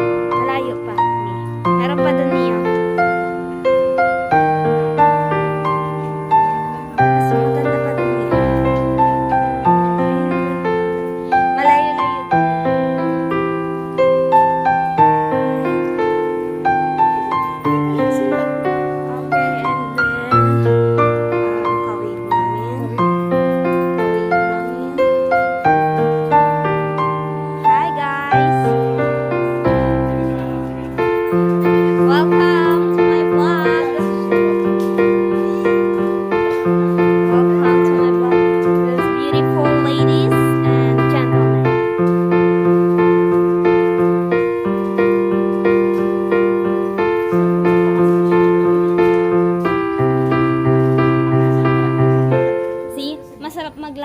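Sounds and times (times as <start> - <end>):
gentle piano melody: 0.0 - 54.0.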